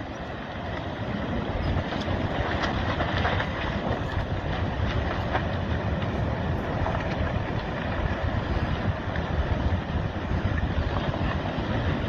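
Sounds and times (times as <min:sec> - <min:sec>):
crackles of breaking ground: 0:00.0 - 0:12.0
landslide rushing rumble: 0:00.0 - 0:12.0.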